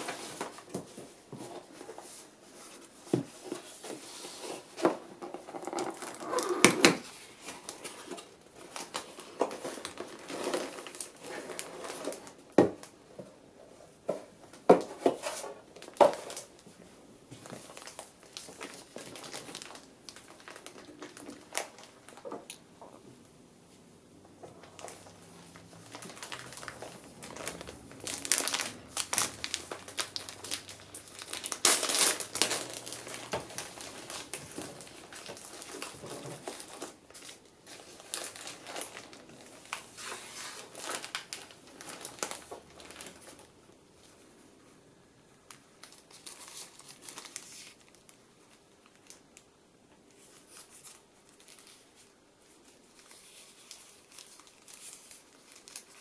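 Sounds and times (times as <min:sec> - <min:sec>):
plastic film crinkling and tearing: 0:03.4 - 0:12.9, 0:15.0 - 0:16.6, 0:17.4 - 0:22.6, 0:24.6 - 0:43.5, 0:45.5 - 0:49.4, 0:50.2 - 0:56.0.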